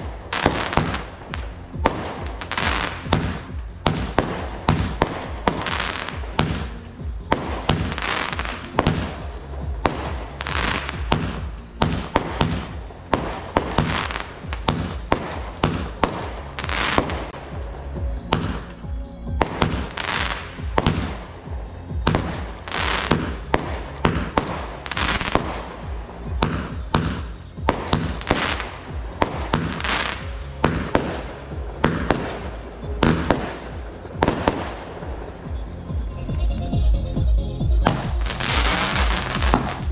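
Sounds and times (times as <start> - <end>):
firework bangs with crackle: 0.0 - 17.6, 18.2 - 18.8, 19.4 - 35.6, 37.8 - 39.9
music playing: 0.0 - 39.9.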